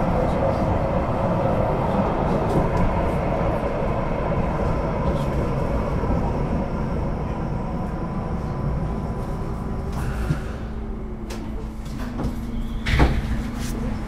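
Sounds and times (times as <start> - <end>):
light-rail car rolling: 0.0 - 14.0.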